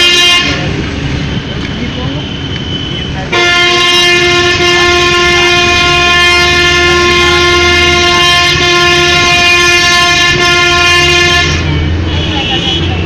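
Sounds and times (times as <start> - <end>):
vehicle horn blaring: 0.0 - 0.8, 2.4 - 13.0
engine and road rumble: 0.0 - 13.0.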